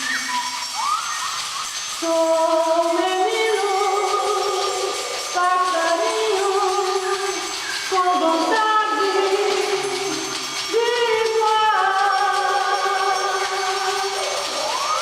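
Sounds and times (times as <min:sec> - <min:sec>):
group of voices singing: 0:02.0 - 0:15.0.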